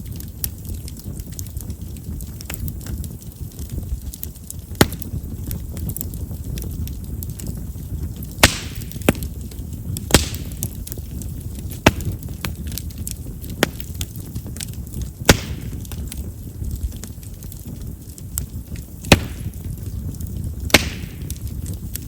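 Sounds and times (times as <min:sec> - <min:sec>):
bonfire flame rumble: 0:00.0 - 0:22.0
wood crackling: 0:00.0 - 0:22.0
wood popping: 0:03.6 - 0:22.0.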